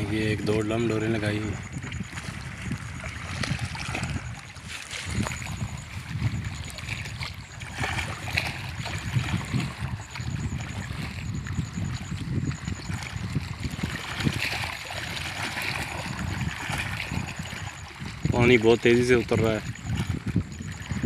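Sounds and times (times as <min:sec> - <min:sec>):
water lapping and gurgling: 0:00.0 - 0:21.0
wind buffeting microphone: 0:00.0 - 0:21.0.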